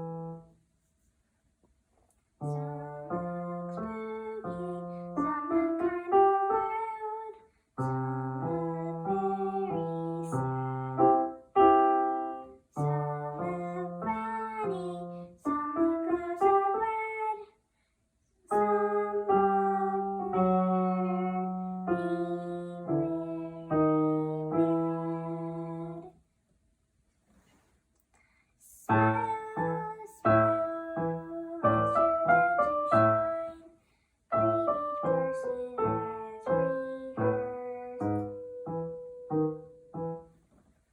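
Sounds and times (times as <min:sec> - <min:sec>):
solo piano tune: 0:00.0 - 0:00.5, 0:02.4 - 0:17.3, 0:18.5 - 0:26.0, 0:28.9 - 0:33.7, 0:34.3 - 0:40.4.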